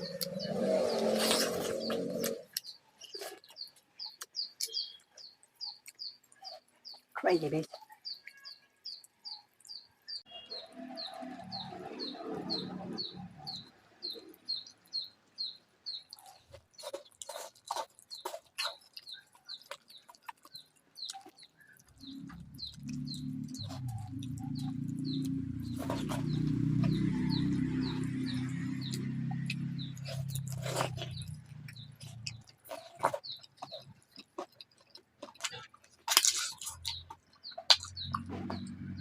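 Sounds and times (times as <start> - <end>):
crunching chewing clicks: 0.0 - 9.9, 10.6 - 39.0
small bird chirping: 0.0 - 39.0.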